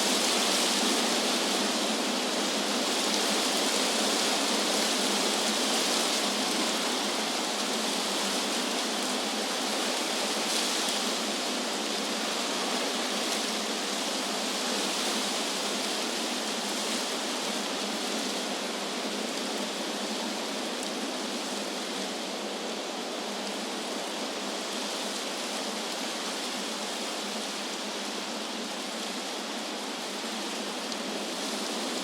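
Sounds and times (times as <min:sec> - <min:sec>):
wind blowing through trees: 0:00.0 - 0:32.0.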